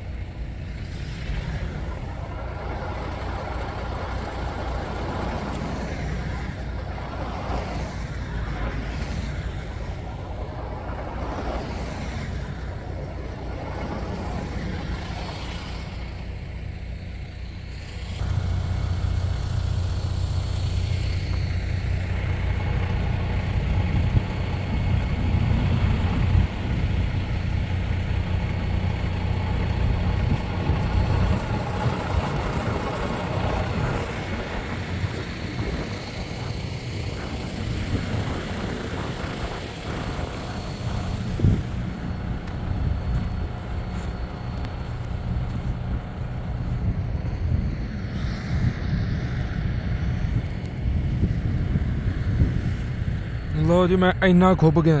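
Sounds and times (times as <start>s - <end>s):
low rumble of road vehicles: 0.0s - 55.0s.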